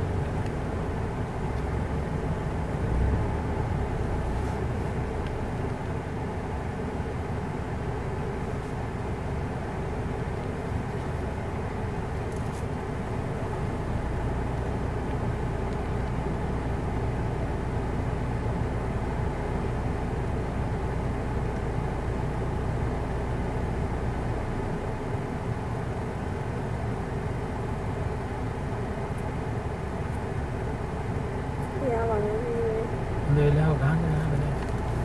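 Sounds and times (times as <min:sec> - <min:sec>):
vehicle engines idling: 0:00.0 - 0:35.0.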